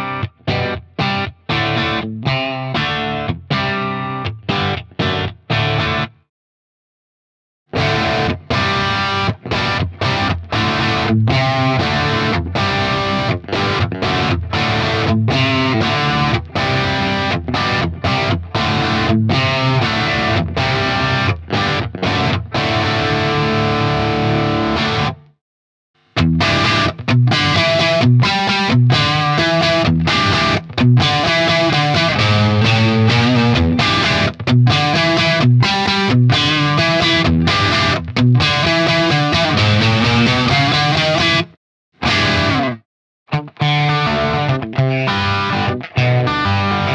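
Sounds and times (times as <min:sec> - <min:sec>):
overdriven electric guitar: 0:00.0 - 0:06.3, 0:07.7 - 0:25.4, 0:26.0 - 0:46.9.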